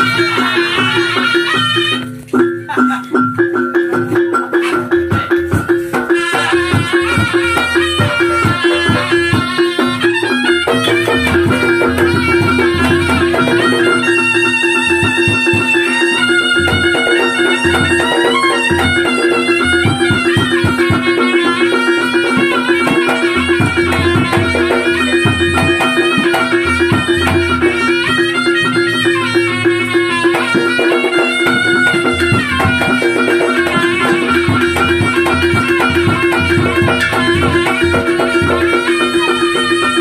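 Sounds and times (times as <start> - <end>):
drum strokes: 0.0 - 40.0
reedy shawm melody: 0.0 - 40.0.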